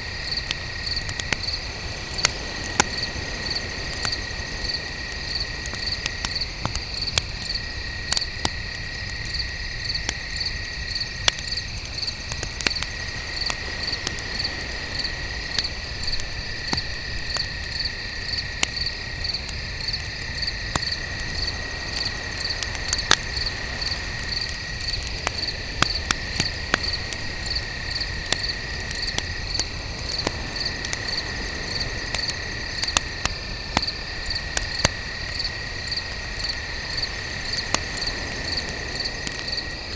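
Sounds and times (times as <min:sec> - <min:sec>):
campfire crackling and popping: 0:00.0 - 0:39.9
crickets chirping: 0:00.0 - 0:39.9
lower steady insect trill: 0:00.0 - 0:39.9.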